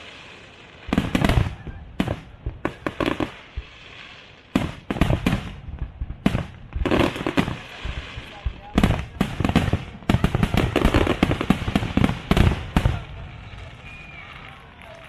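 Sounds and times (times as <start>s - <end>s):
fireworks bangs with echoing rumble: 0.0s - 15.0s.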